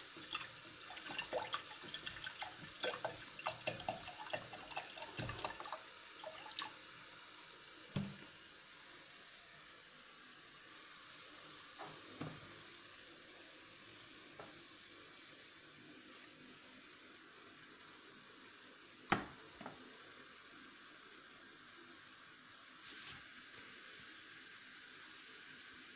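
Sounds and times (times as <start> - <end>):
milk pouring into a saucepan: 0.0 - 25.9
pancakes frying in oil: 0.0 - 25.9.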